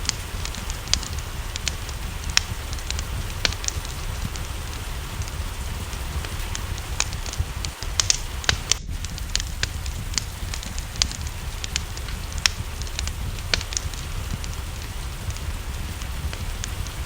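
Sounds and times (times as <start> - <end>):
rain hissing: 0.0 - 17.0
wood fire crackling: 0.0 - 17.0.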